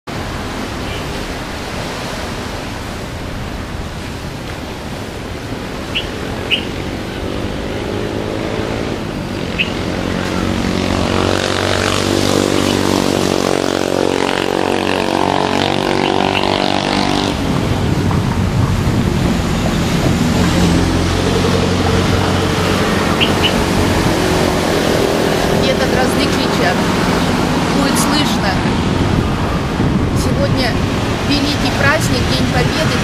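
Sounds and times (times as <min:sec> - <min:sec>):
traffic noise: 0:00.0 - 0:33.0
engine humming: 0:04.0 - 0:33.0.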